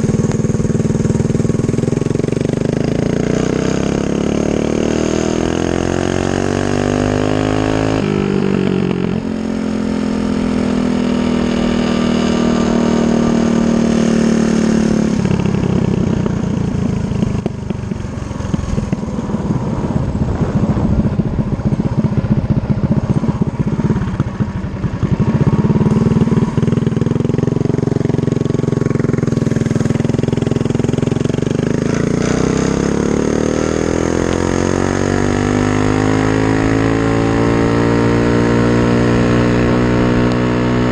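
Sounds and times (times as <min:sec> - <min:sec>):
mini bike engine accelerating: 0:00.0 - 0:40.9.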